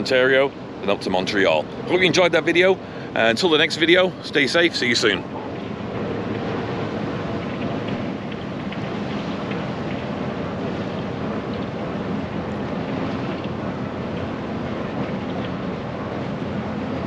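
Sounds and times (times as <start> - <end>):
ship engine drone: 0.0 - 17.0.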